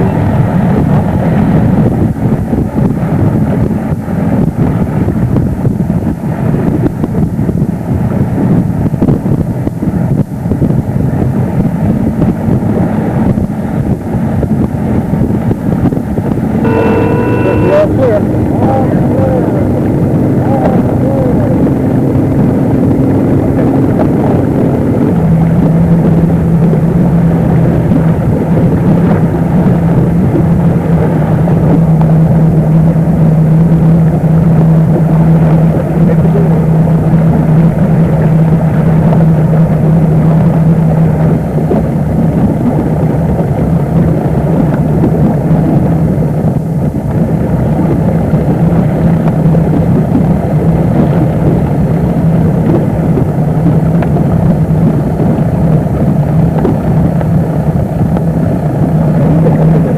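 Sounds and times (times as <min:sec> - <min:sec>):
motorboat engine running: 0:00.0 - 0:59.9.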